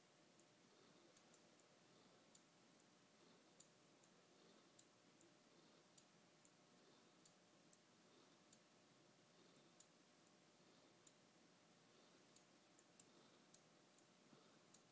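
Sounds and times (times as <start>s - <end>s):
quiet hiss: 0.0s - 14.9s.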